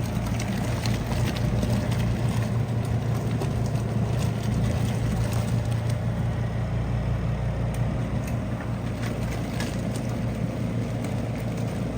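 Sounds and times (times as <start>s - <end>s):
washing machine motor hum: 0.0s - 11.9s.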